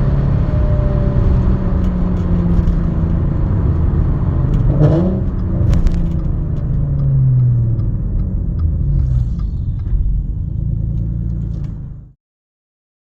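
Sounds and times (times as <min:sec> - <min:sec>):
loud low car exhaust: 0:00.0 - 0:12.1.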